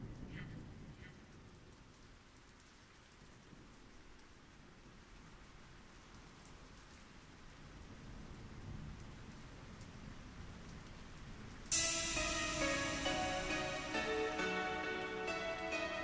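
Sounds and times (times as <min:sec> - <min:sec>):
faint steady rain: 0:00.0 - 0:16.0
light ticks of raindrops: 0:00.0 - 0:16.0.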